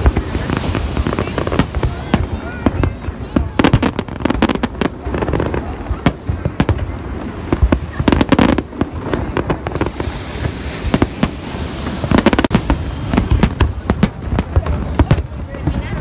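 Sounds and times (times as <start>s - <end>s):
firework bangs: 0.0s - 16.0s
firework hiss: 0.0s - 16.0s.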